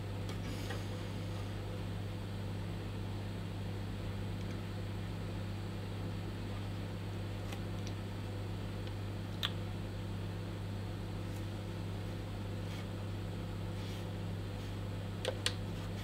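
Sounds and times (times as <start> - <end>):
low electrical hum with hiss: 0.0 - 16.0.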